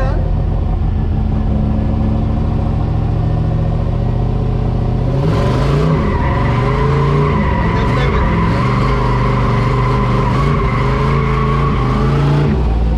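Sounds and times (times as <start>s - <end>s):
truck engine revving: 0.0s - 12.9s.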